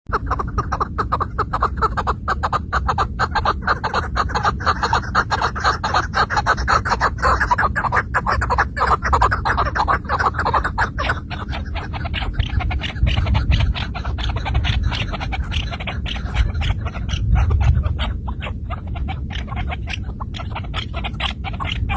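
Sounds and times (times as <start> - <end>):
partridge clucking call: 0.1 - 21.9
steady low rumble: 0.1 - 21.9.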